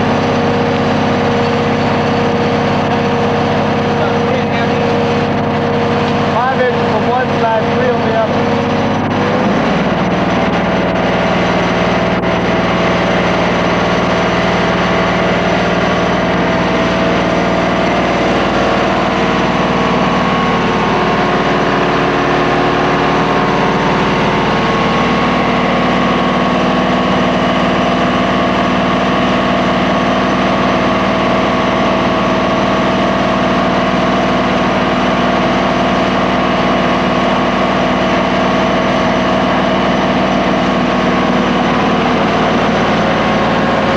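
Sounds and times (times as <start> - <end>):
vacuum excavator running: 0.0 - 43.9.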